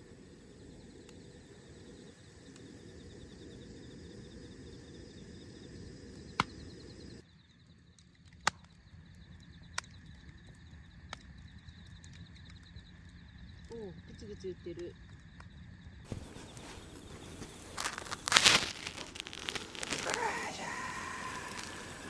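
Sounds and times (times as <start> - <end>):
crickets chirping: 0.0 - 7.8, 8.8 - 22.0.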